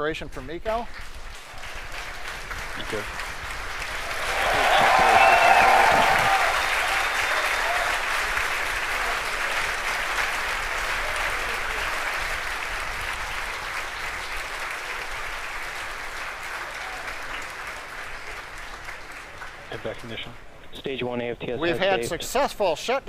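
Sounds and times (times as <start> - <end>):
crowd applauding: 0.8 - 20.4.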